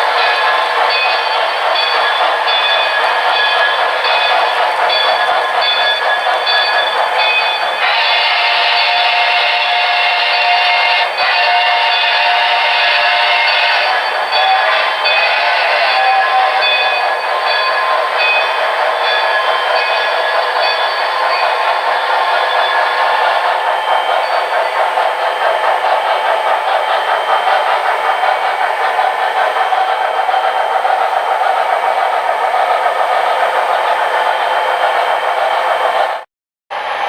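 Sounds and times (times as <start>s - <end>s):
model trains rattling: 0.0s - 36.2s.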